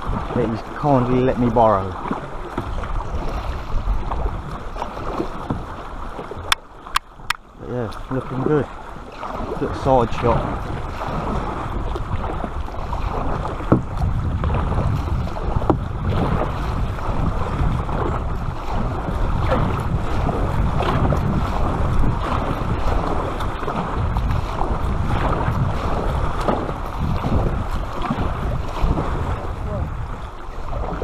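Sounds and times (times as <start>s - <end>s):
water splashing along kayak hull: 0.0s - 31.0s
wind noise on microphone: 0.0s - 31.0s.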